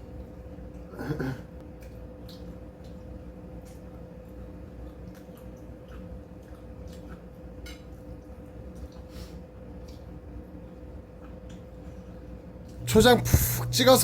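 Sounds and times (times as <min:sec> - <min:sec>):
steady hum: 0:00.0 - 0:14.0
person chewing food: 0:01.6 - 0:13.7.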